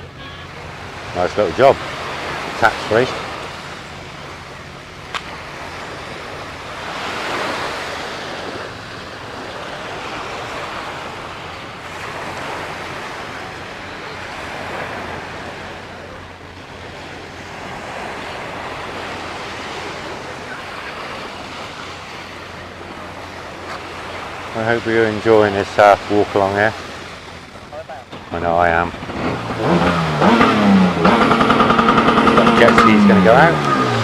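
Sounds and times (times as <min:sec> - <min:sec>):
small waves washing on sand: 0:00.0 - 0:34.0.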